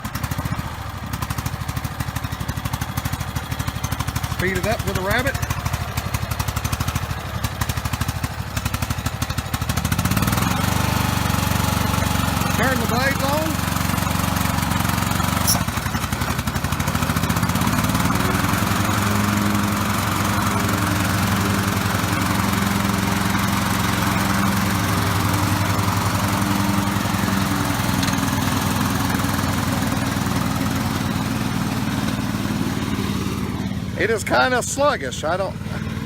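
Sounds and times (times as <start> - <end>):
riding lawn mower engine: 0.0 - 36.0.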